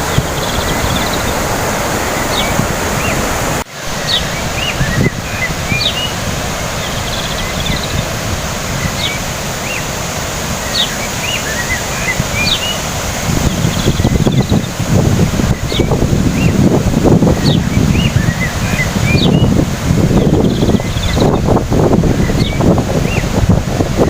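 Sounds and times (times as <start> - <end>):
birds chirping: 0.0 - 21.6, 22.2 - 23.4
rushing water: 0.0 - 24.0.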